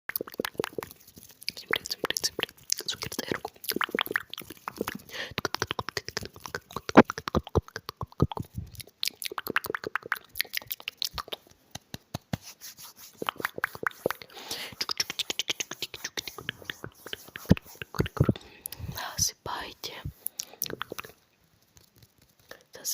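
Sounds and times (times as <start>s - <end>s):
wet mouth clicks and smacks: 0.1s - 19.2s, 20.0s - 21.2s.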